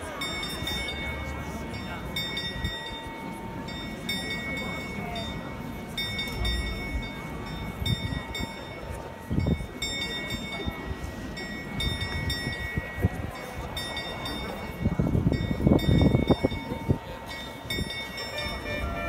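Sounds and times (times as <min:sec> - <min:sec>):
murmur of crowd: 0:00.0 - 0:19.0.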